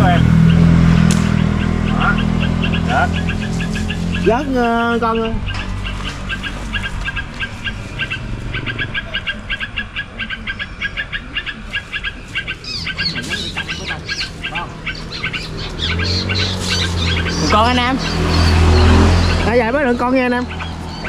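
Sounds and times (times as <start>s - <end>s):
bird chattering: 0.0s - 21.0s
high sliding bird calls: 0.0s - 21.0s.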